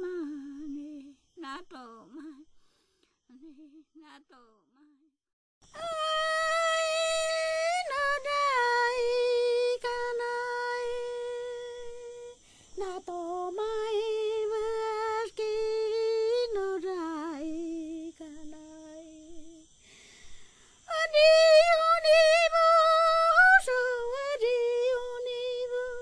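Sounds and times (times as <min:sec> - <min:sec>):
woman singing unaccompanied: 0:00.0 - 0:02.6, 0:03.2 - 0:05.1, 0:05.7 - 0:19.8, 0:20.8 - 0:26.0.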